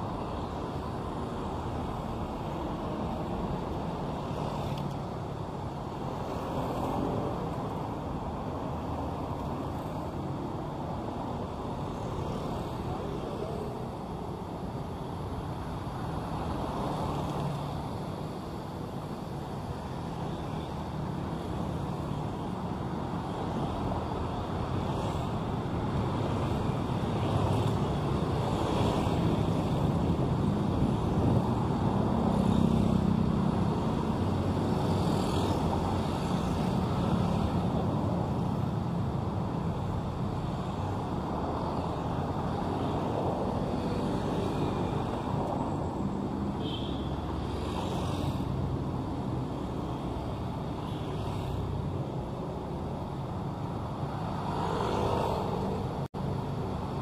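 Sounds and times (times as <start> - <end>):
passing vehicles: 0.0 - 57.0.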